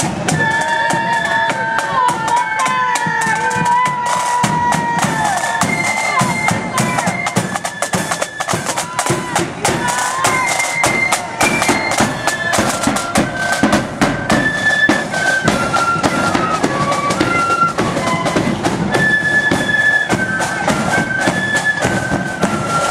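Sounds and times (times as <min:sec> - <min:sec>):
flutes playing melody: 0:00.0 - 0:22.9
snare drum strokes and rolls: 0:00.0 - 0:22.9.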